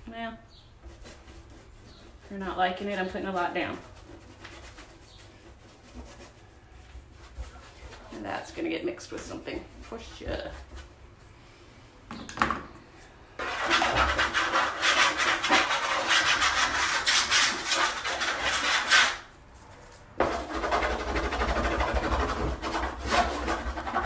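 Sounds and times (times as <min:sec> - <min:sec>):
drawing tool scratching on wood: 0:00.8 - 0:10.9, 0:13.4 - 0:19.3, 0:20.2 - 0:24.0.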